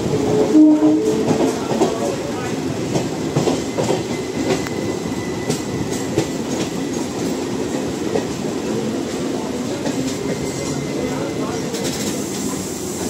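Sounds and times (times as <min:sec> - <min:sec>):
train wheels clattering: 0:00.3 - 0:13.0.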